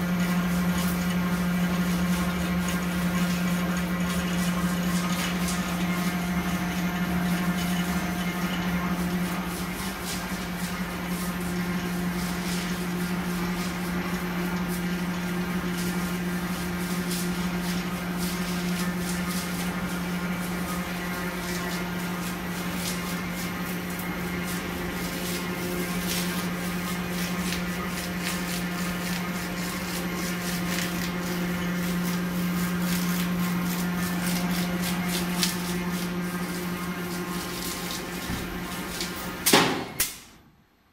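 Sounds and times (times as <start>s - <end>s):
machine motor hum: 0.0s - 40.0s
high steady whines: 0.0s - 40.6s.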